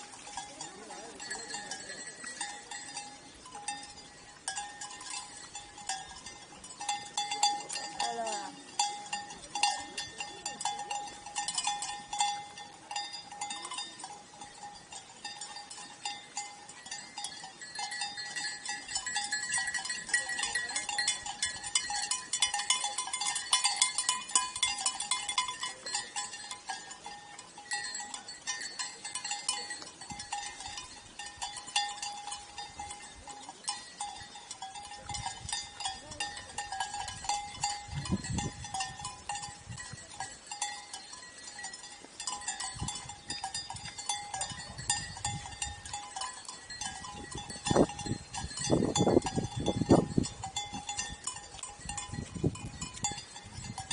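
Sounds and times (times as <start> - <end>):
sheep bells clinking: 0.0 - 53.9.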